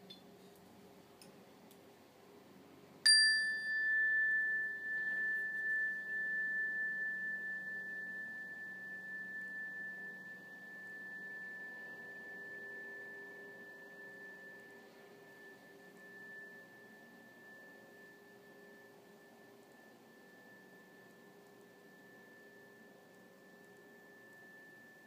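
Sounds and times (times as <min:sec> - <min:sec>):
high chime ringing: 0:03.1 - 0:25.0.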